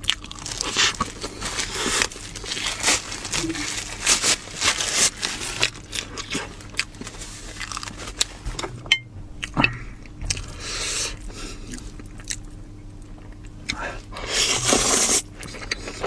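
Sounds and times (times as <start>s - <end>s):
person chewing food: 0.0s - 3.8s, 5.0s - 16.0s.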